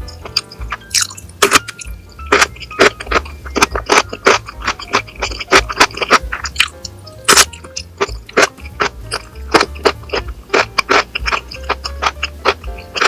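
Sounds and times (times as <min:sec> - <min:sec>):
background music with bass line: 0:00.0 - 0:13.0
crunching while eating: 0:00.0 - 0:13.0.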